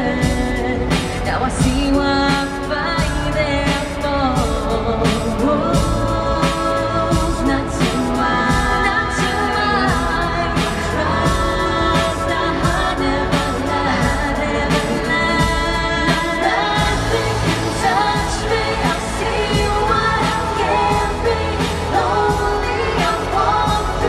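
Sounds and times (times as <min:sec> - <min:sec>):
steady drum beat: 0:00.0 - 0:24.0
women singing: 0:00.0 - 0:24.0.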